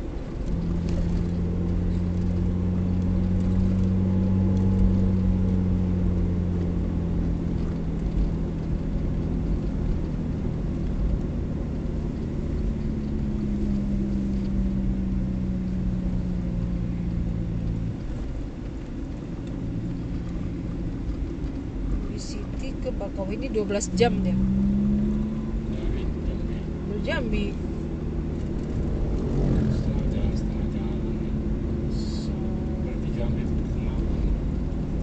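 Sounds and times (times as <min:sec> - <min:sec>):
car engine and tyres in cabin: 0:00.0 - 0:35.0.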